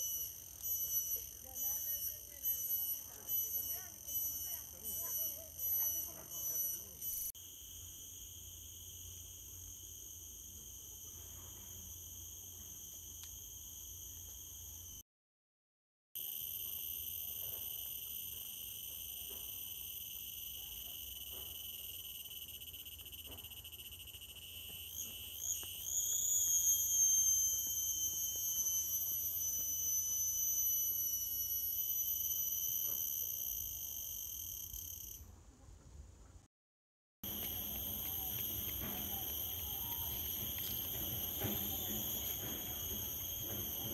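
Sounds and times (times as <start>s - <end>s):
shrill insect chorus: 0.0s - 15.0s, 16.2s - 35.2s, 37.2s - 43.9s.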